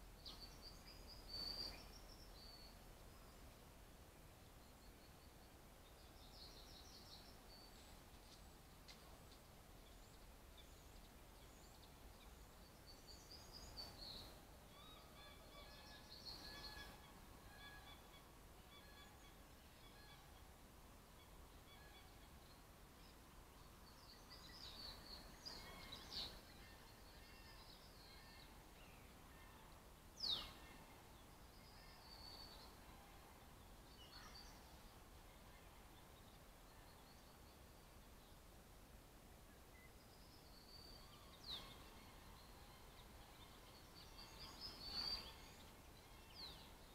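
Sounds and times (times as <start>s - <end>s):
birdsong: 0.0s - 38.5s, 39.5s - 46.9s.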